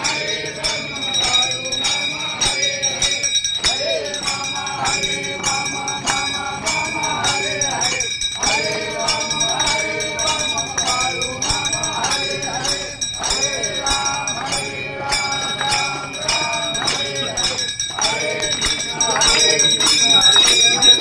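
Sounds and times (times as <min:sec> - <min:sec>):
bells ringing: 0:00.0 - 0:21.0
group of voices singing: 0:00.0 - 0:21.0.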